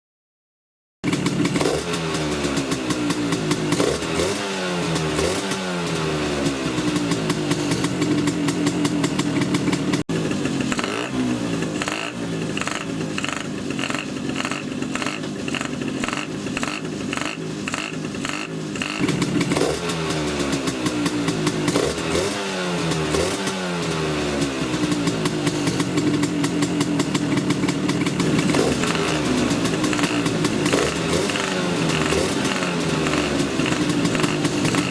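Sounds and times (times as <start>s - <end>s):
scooter engine revving: 1.0s - 34.9s.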